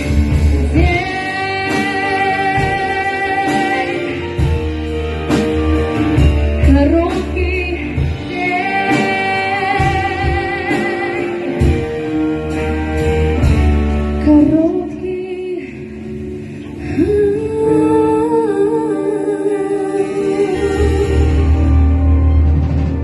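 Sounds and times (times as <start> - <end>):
woman singing with vibrato: 0.0 - 5.0, 6.1 - 12.2, 14.0 - 22.6
backing track melody and bass: 0.0 - 23.0.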